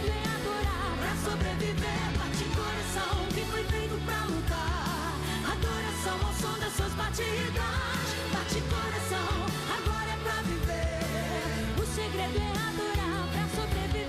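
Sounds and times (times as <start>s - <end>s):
backing band with drum beat: 0.0s - 14.0s
woman singing into a microphone: 0.0s - 14.0s.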